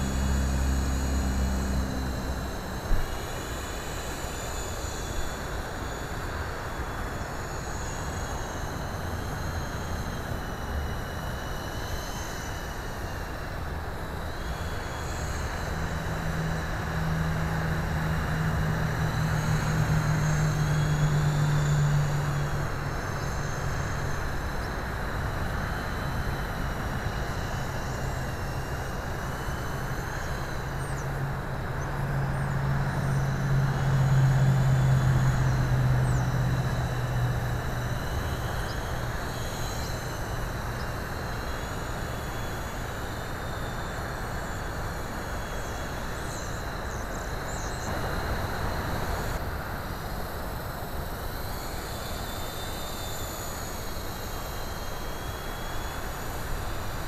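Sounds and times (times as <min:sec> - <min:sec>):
helicopter rotors buzzing: 0:00.0 - 0:57.0.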